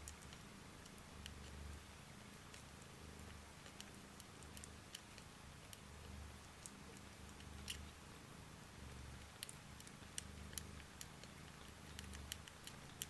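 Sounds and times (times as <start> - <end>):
faint clicks: 0.0 - 8.0, 9.0 - 13.0
kitten purring softly: 0.0 - 13.0.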